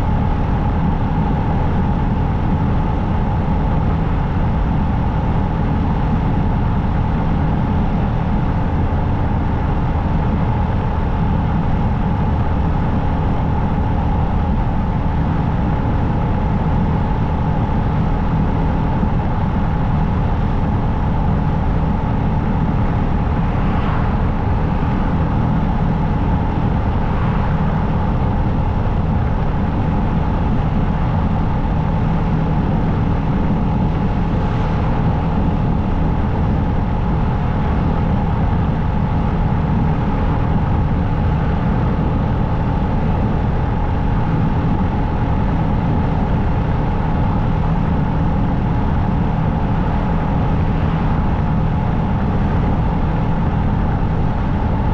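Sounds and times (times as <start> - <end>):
wind noise: 0.0 - 54.9.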